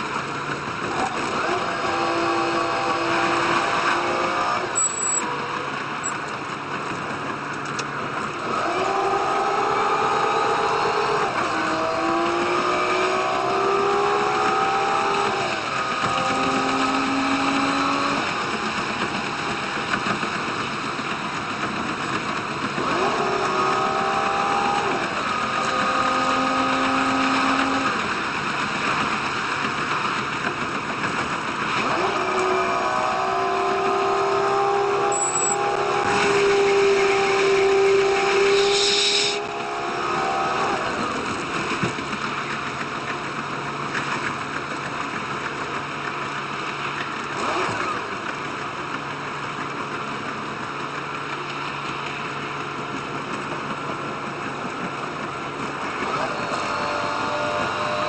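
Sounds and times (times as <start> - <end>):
diesel railcar engine tones: 0.0 - 58.0
train running noise: 2.8 - 9.7, 10.8 - 33.8, 35.0 - 58.0.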